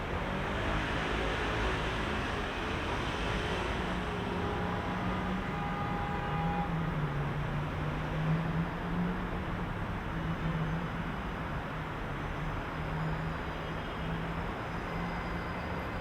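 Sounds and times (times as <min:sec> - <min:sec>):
heavy road traffic: 0:00.0 - 0:16.0.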